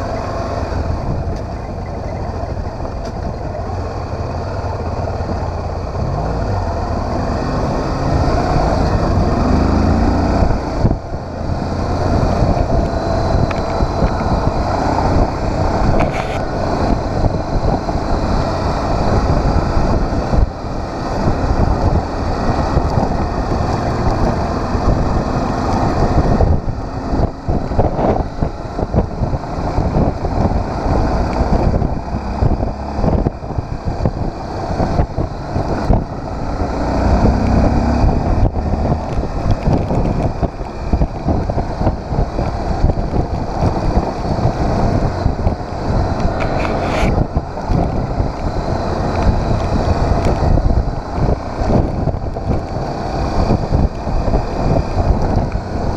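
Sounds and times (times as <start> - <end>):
motorcycle engine: 0.0 - 55.9
wind buffeting microphone: 0.0 - 55.9.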